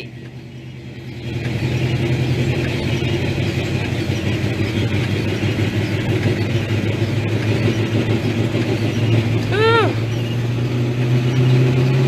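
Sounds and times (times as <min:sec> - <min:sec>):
road noise: 0:00.0 - 0:12.0
truck engine hum: 0:00.0 - 0:12.0.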